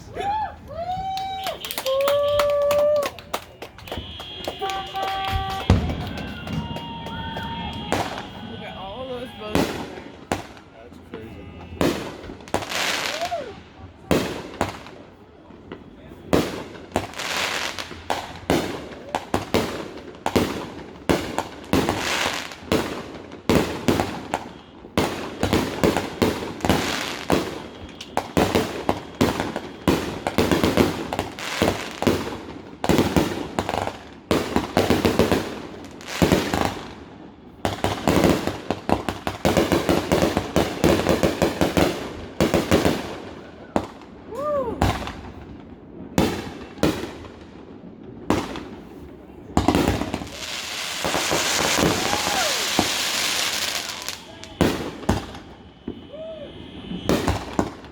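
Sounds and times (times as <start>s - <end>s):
fireworks bursting and crackling: 0.0s - 57.9s.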